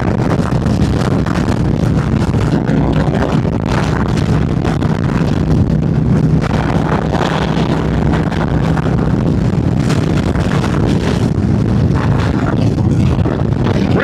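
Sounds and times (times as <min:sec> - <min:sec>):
motorcycle engine running: 0:00.0 - 0:14.0
wind on microphone: 0:00.0 - 0:14.0.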